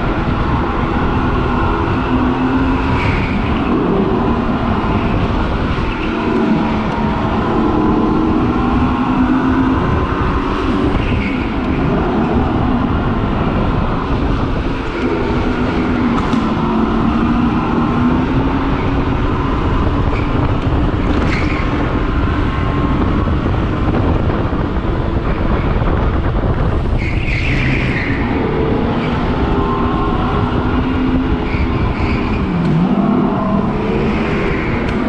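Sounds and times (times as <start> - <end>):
heavy rumble: 0.0 - 35.0.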